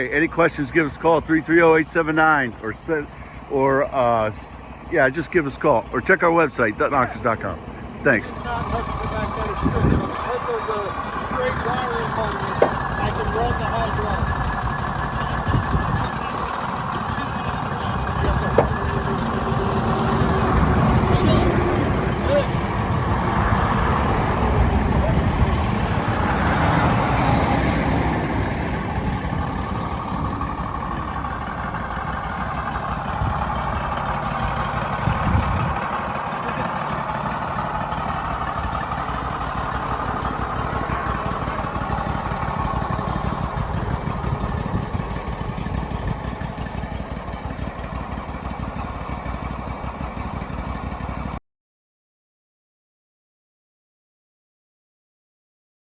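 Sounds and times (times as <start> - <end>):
sawmill engine running: 0.0 - 51.4.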